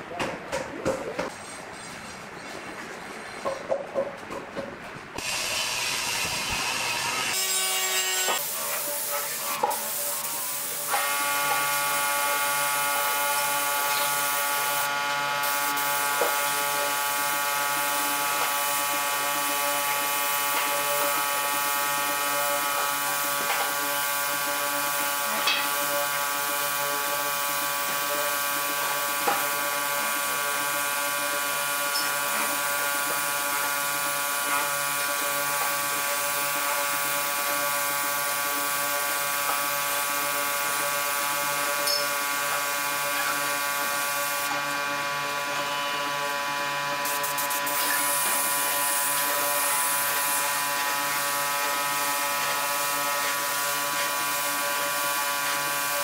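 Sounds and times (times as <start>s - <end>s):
air compressor humming: 8.3s - 56.0s.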